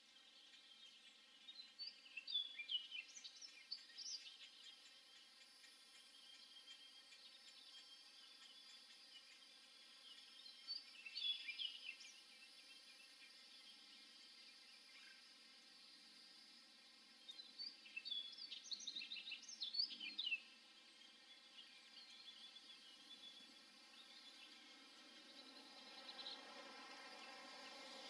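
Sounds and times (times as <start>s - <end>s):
faint background hiss: 0.0s - 28.0s.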